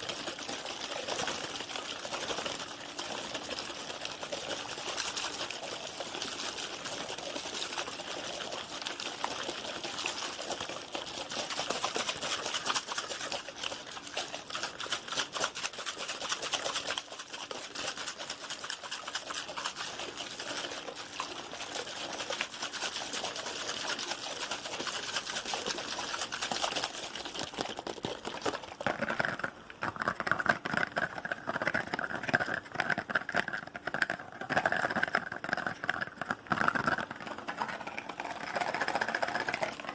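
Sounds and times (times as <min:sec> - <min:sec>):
water sounds: 0:00.0 - 0:39.9.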